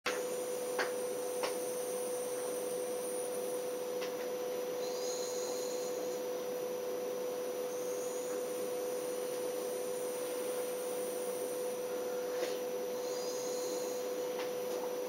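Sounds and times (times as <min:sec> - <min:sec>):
steady hum: 0:00.1 - 0:15.0.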